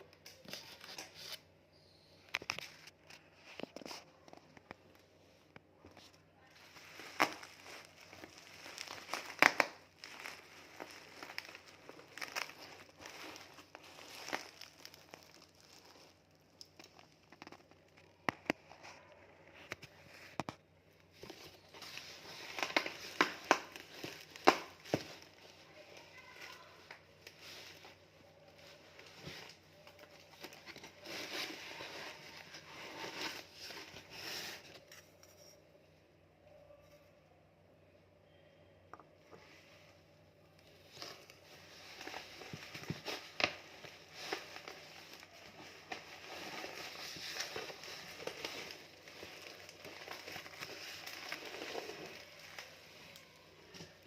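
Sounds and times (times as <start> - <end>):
packaging crinkling and rustling: 2.2 - 35.2, 40.4 - 54.0.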